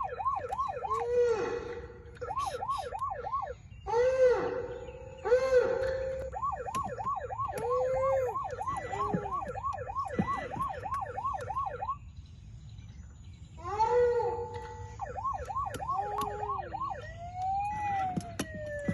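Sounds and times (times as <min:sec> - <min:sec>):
electronic toy siren wailing: 0:00.0 - 0:12.0, 0:13.8 - 0:18.9.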